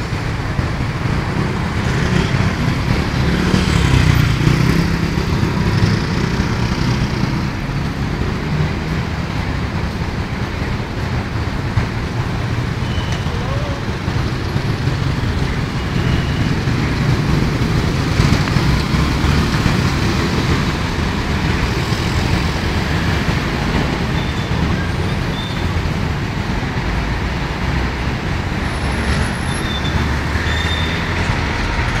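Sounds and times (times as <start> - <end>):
dense city traffic rumble: 0.0 - 32.0.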